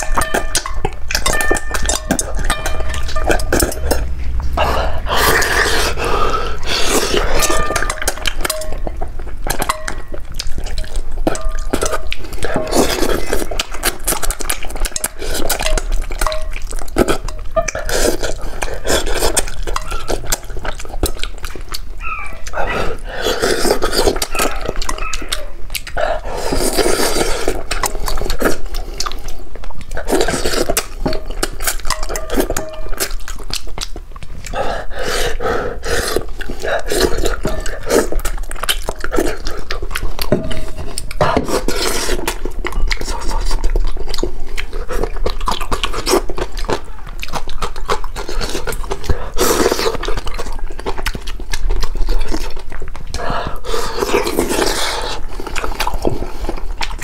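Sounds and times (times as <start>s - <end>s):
wet chewing and slurping: 0.0s - 57.0s.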